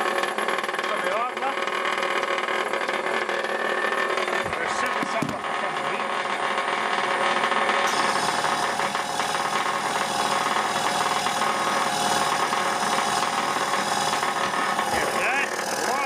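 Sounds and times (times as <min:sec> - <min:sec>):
compressor running: 0:00.0 - 0:16.0
held mechanical tones: 0:00.0 - 0:16.0.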